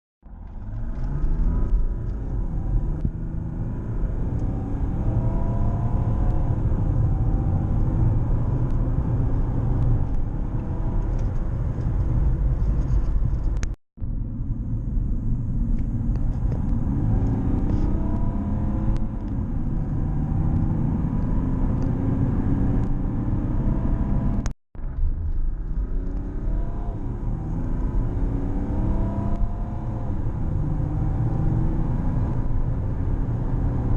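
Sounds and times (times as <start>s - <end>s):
car engine accelerating hard: 0.3s - 12.1s, 15.7s - 24.5s, 25.7s - 33.9s.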